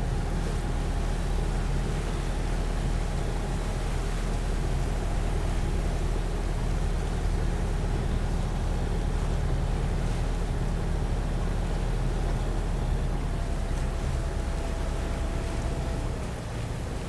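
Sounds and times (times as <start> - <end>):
boat engine droning: 0.0 - 17.0
wind and water hiss: 0.0 - 17.0.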